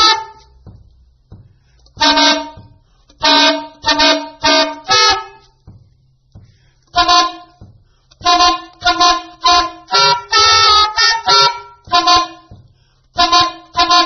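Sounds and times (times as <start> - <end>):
soprano saxophone multiphonic blasts: 0.0 - 0.6, 2.0 - 5.6, 6.9 - 14.0.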